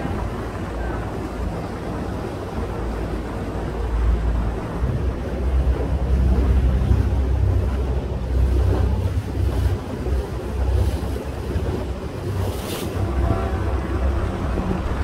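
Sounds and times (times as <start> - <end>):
boat engine rumble: 0.0 - 15.0
water washing along hull: 0.0 - 15.0
wind buffeting microphone: 0.0 - 15.0.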